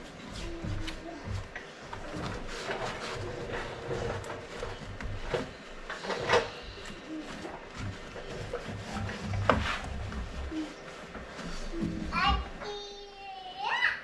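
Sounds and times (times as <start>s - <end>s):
rubbing and light knocks: 0.0s - 12.7s.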